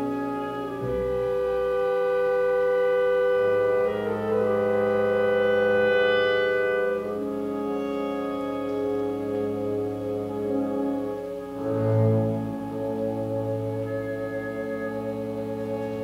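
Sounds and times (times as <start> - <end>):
chamber ensemble sustained chords: 0.0 - 16.0.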